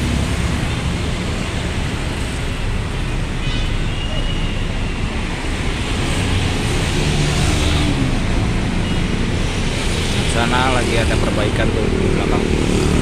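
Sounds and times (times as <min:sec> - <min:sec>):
roadside traffic noise: 0:00.0 - 0:13.0.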